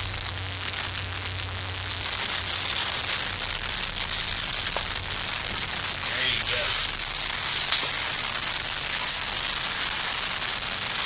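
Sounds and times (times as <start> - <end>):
alcohol stoves burning with hiss: 0.0 - 11.0.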